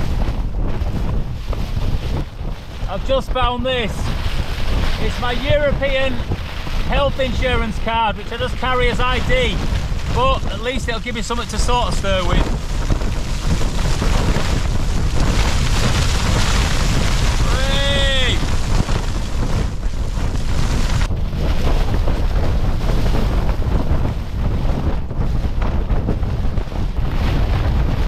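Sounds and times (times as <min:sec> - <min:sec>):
storm gusts battering tent: 0:00.0 - 0:28.0
wind rumble on microphone: 0:00.0 - 0:28.0.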